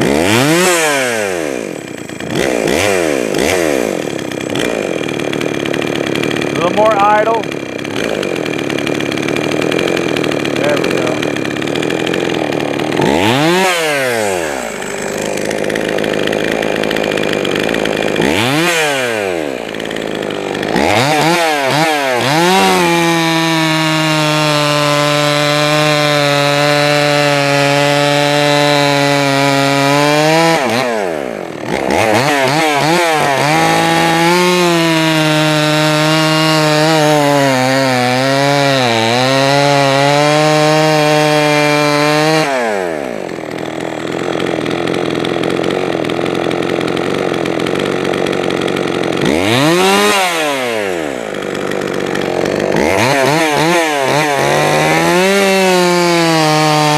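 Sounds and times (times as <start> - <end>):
chainsaw revving: 0.0 - 56.9.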